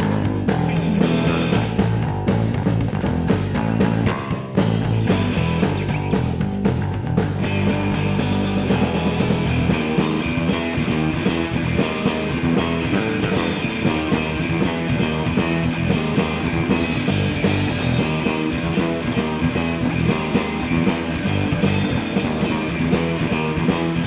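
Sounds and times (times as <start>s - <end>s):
instrumental rock music: 0.0s - 24.0s.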